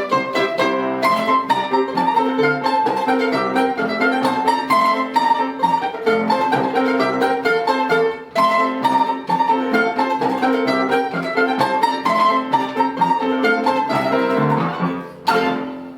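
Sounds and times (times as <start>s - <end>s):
plucked string ensemble polka: 0.0s - 15.9s.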